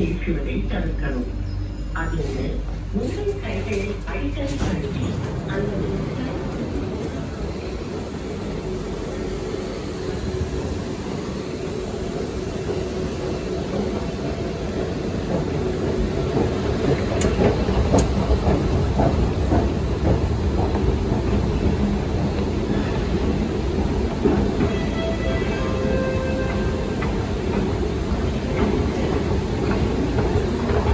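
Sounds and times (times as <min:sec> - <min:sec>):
train rumble and rail noise: 0:00.0 - 0:30.9.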